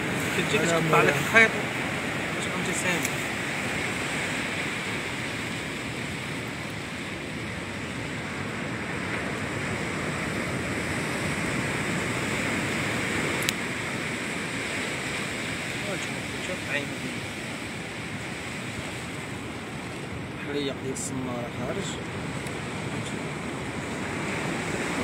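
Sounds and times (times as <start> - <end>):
sea surf washing on shore: 0.0 - 25.0.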